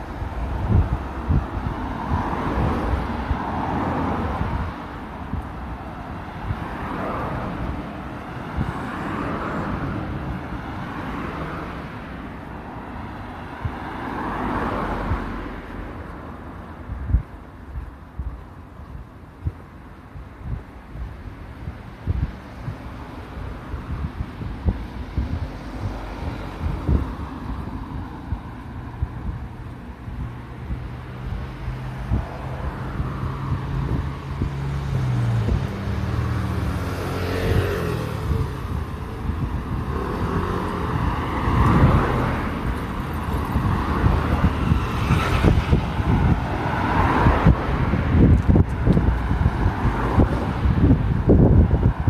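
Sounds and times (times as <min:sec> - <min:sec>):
cars passing: 0:00.0 - 0:52.0
low engine hum: 0:00.0 - 0:52.0.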